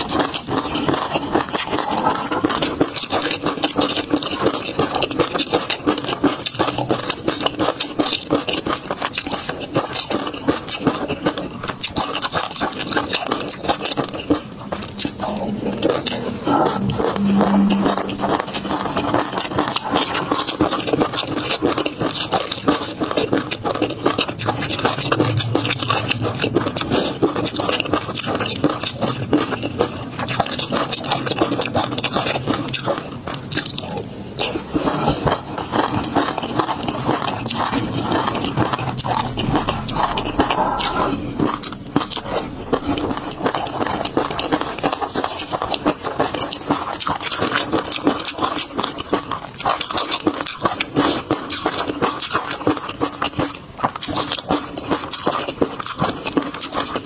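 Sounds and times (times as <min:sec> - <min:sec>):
wet chewing clicks and smacks: 0:00.0 - 0:16.8, 0:17.9 - 0:57.0.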